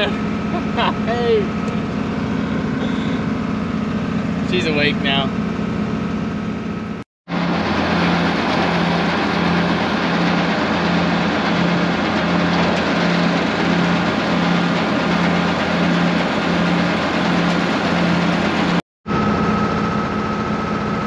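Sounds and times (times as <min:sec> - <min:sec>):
tractor engine hum: 0:00.0 - 0:21.0
tub grinder shredding hay: 0:00.0 - 0:21.0.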